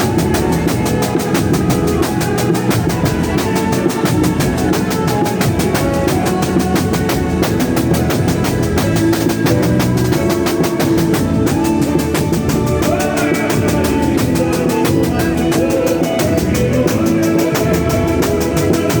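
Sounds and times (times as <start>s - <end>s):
melody over drums: 0.0s - 19.0s
percussion band drumming: 0.0s - 19.0s.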